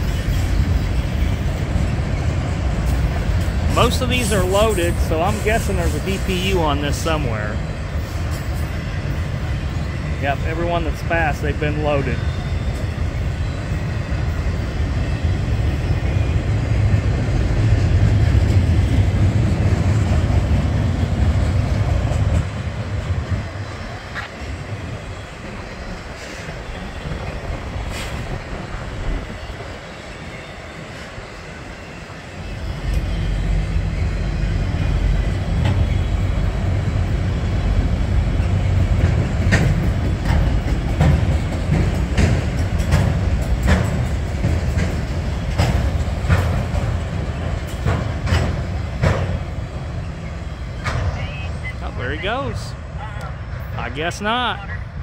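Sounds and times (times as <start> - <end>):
freight cars rumbling on rails: 0.0 - 55.0.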